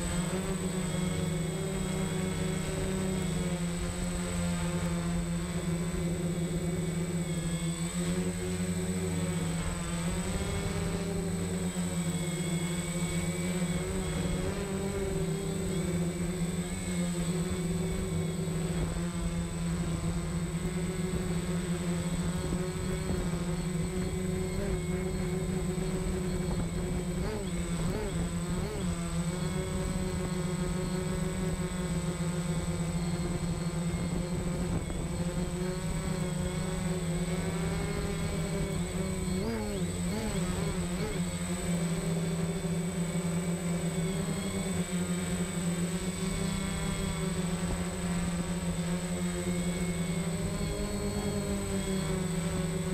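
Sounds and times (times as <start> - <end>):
drone propellers buzzing: 0.0 - 52.9.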